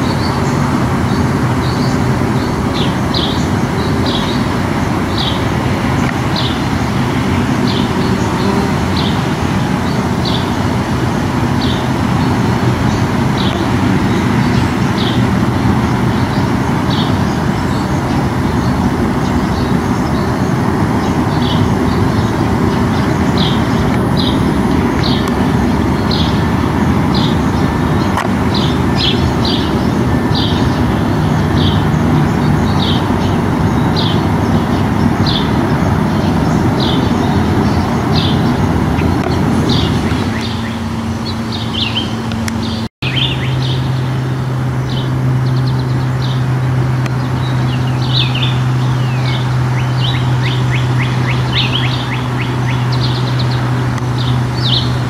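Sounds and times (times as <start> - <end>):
small bird chirping: 0.0 - 55.0
steady low rumble: 0.0 - 55.0.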